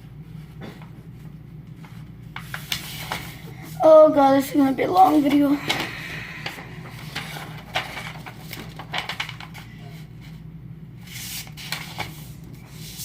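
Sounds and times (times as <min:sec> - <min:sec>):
steady low hum: 0:00.0 - 0:13.0
paper rustling and crinkling: 0:00.5 - 0:03.8, 0:04.6 - 0:10.4, 0:11.0 - 0:13.0.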